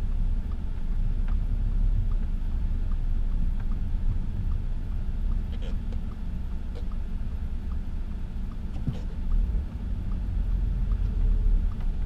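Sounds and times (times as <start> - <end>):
car engine and road rumble: 0.0 - 12.0
faint regular ticking: 0.1 - 12.0.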